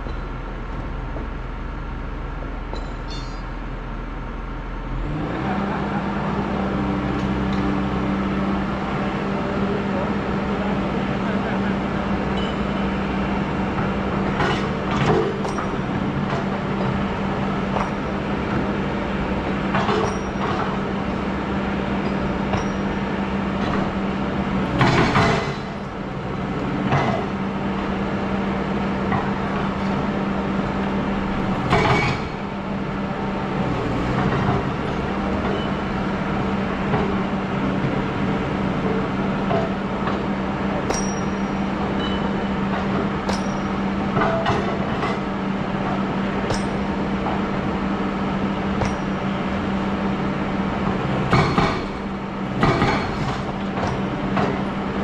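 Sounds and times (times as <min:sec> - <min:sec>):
excavator engine humming: 0:00.0 - 0:55.0.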